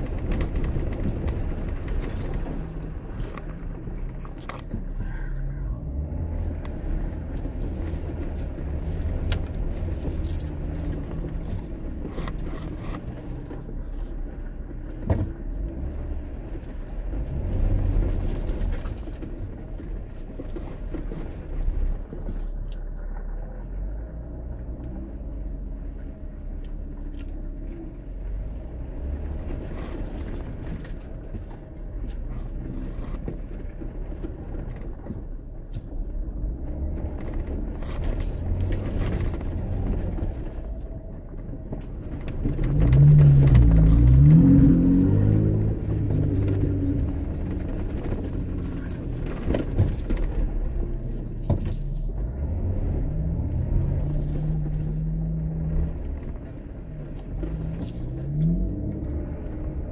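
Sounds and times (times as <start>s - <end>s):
loose objects rattling in cab: 0.0s - 23.3s, 29.3s - 59.9s
car engine pulling at low speed: 0.0s - 59.9s.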